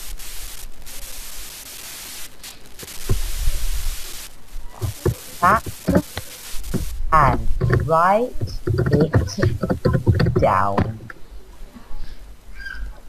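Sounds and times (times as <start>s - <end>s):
static hiss on phone line: 0.0s - 12.5s.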